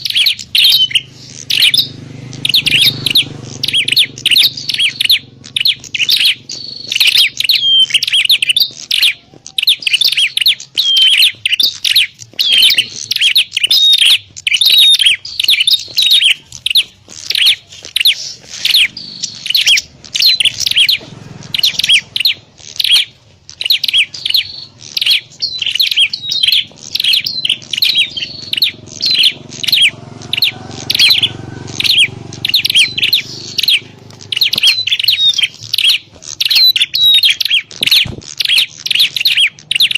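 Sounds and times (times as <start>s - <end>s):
birds chirping sharply: 0.0s - 39.9s.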